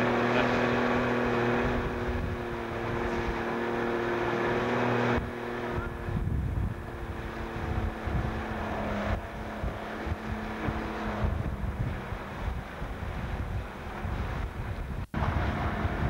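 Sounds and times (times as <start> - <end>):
outboard motor running: 0.0 - 16.0
water noise: 0.0 - 16.0
wind buffeting microphone: 0.0 - 16.0.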